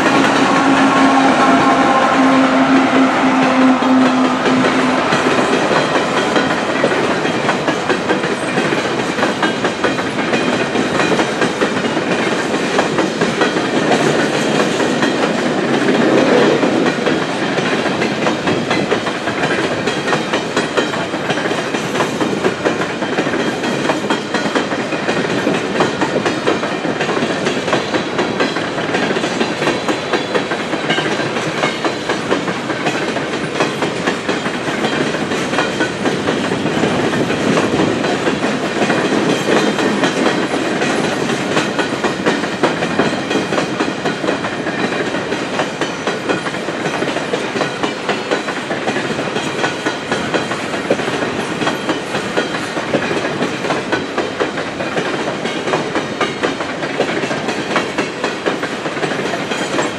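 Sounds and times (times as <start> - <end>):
freight train rumble and rattle: 0.0 - 59.9
wheels clicking over rail joints: 0.0 - 59.9.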